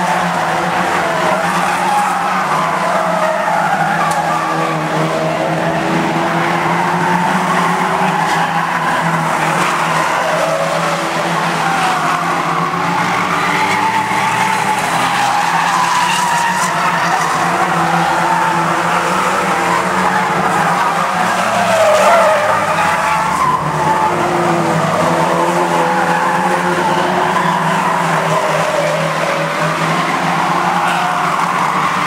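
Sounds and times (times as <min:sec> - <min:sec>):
racing car engines: 0:00.0 - 0:32.0
tyres squealing: 0:00.1 - 0:32.0.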